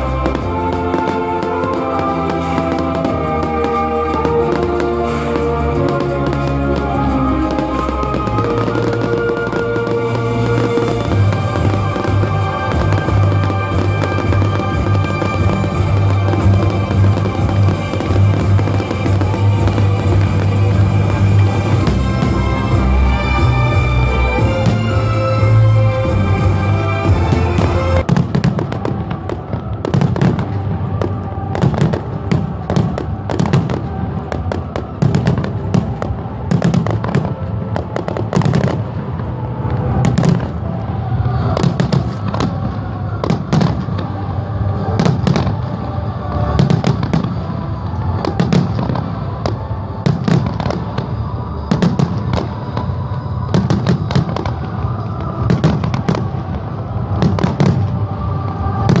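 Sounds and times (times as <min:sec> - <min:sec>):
fireworks bangs and crackles: 0:00.0 - 0:59.0
music playing: 0:00.0 - 0:59.0.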